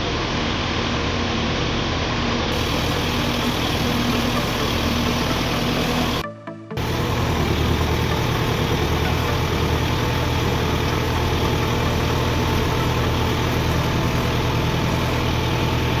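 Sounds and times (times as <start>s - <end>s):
tractor diesel engine idling: 2.5s - 6.2s, 6.8s - 16.0s.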